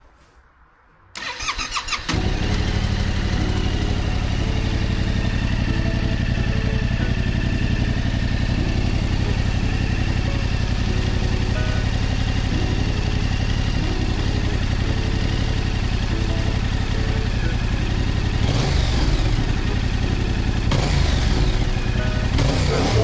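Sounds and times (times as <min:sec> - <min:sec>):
motorcycle engine starting and idling: 0:01.2 - 0:23.0.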